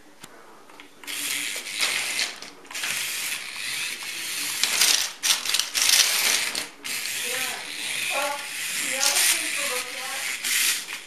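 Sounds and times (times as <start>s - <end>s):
toy truck motor whirring: 1.0s - 11.0s.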